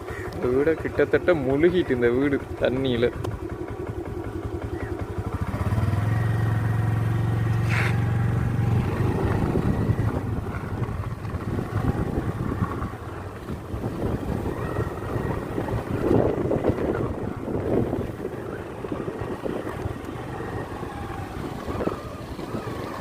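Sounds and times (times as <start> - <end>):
small motorcycle engine running: 0.0 - 23.0.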